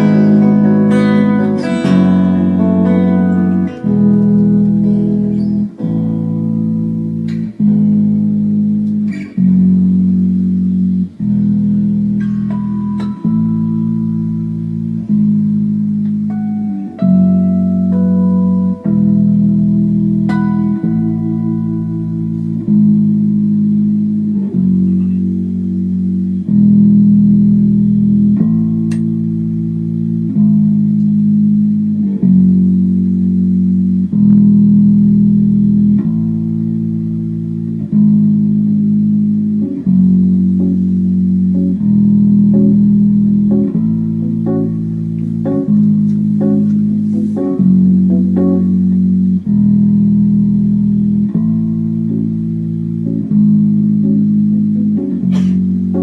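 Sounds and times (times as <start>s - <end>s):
plucked guitar notes: 0.0s - 56.0s.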